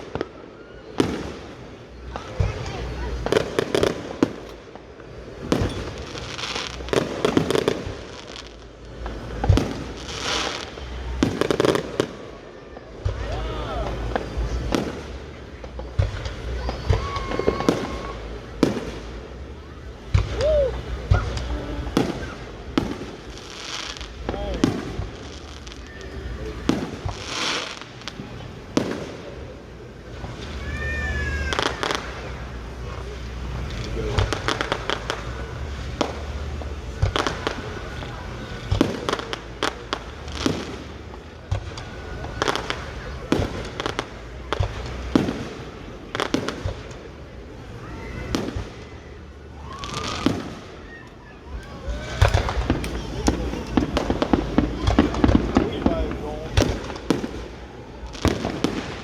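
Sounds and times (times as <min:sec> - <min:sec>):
firework bangs: 0:00.0 - 0:59.0
firework crackling pops: 0:00.0 - 0:59.0.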